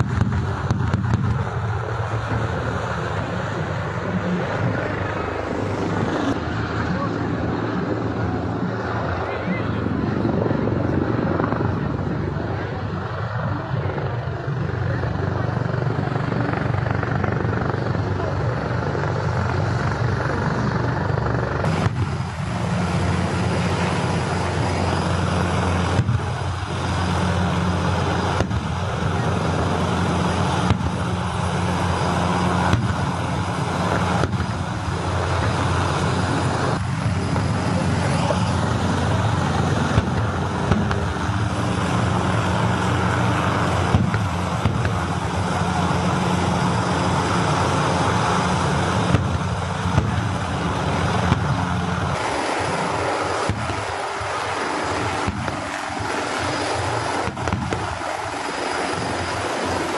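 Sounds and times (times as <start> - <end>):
loud engine humming: 0.0 - 59.9.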